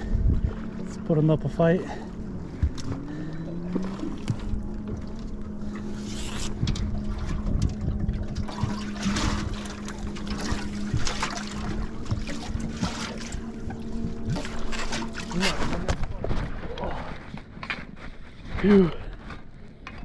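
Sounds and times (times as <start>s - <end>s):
outboard motor humming: 0.0s - 20.0s.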